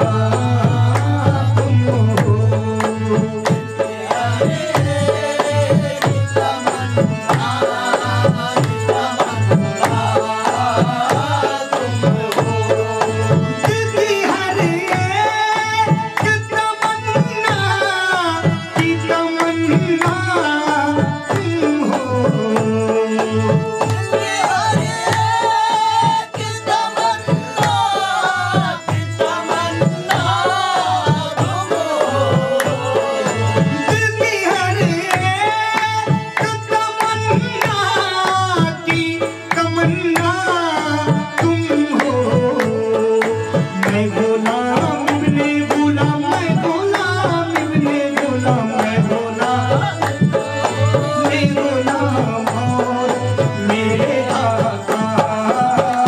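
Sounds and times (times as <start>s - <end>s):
hand drum rhythm: 0.0s - 56.0s
harmonium melody and drone: 0.0s - 56.0s
person singing: 0.0s - 56.0s.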